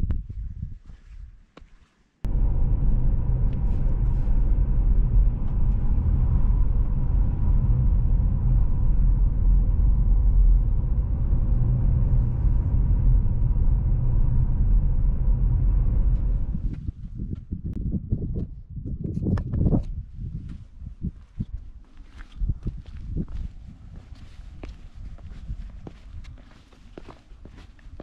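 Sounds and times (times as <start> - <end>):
car engine and tyre rumble: 2.2 - 17.8, 19.4 - 28.0.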